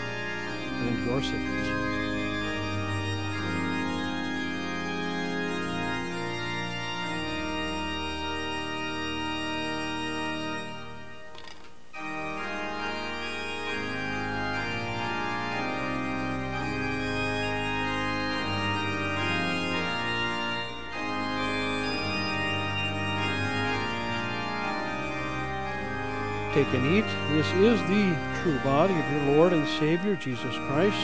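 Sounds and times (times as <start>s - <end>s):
organ playing sustained chords: 0.0s - 31.0s.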